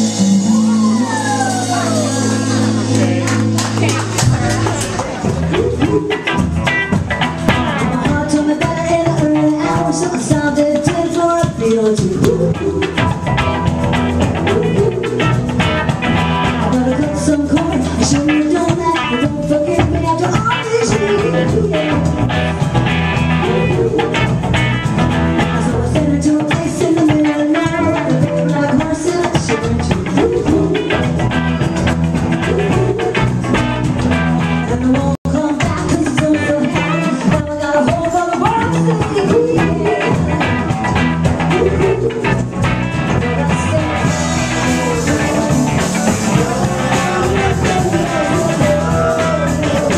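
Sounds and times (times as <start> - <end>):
woman singing lead: 0.0 - 13.6, 14.2 - 15.7, 16.4 - 22.4, 23.3 - 31.2, 34.4 - 49.9
drum kit: 0.0 - 49.9
electric guitar: 0.0 - 49.9.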